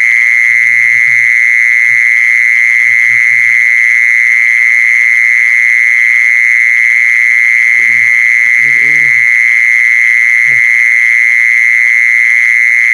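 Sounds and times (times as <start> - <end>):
mole cricket trilling: 0.0 - 12.9.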